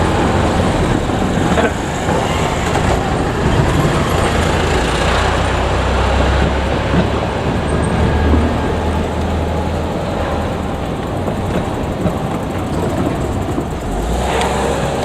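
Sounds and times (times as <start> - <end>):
electric train running by: 0.0 - 15.0.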